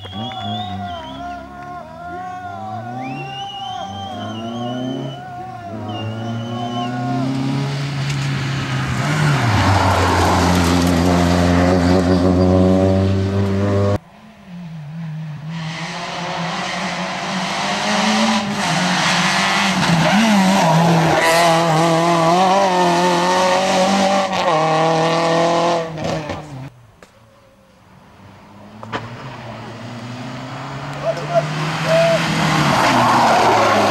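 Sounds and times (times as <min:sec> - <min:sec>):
rally car engines revving: 0:00.0 - 0:26.7, 0:28.2 - 0:33.9.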